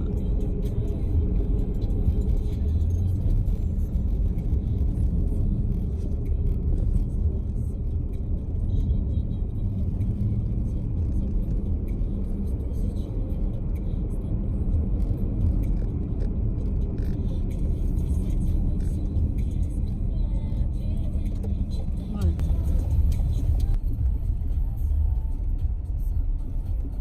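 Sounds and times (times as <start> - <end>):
road noise inside car: 0.0 - 27.0.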